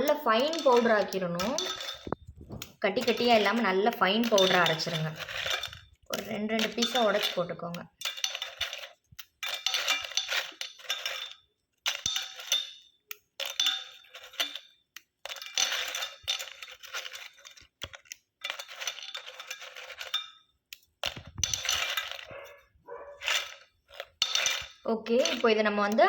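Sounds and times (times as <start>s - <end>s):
pieces clinking in metal jar: 0.0s - 26.0s.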